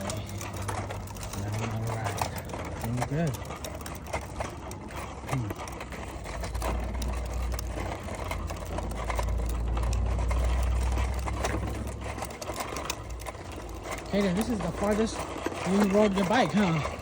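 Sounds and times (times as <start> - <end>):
bicycle rattling and clicking: 0.0 - 17.0.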